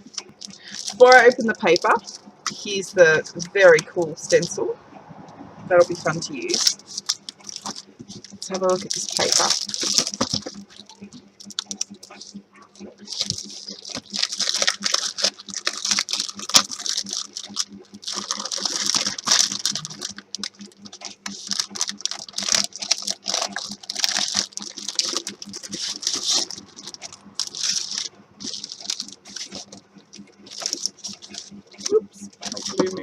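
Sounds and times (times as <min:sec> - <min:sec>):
paper and plastic packaging crinkling: 0:00.0 - 0:04.7, 0:05.7 - 0:33.0.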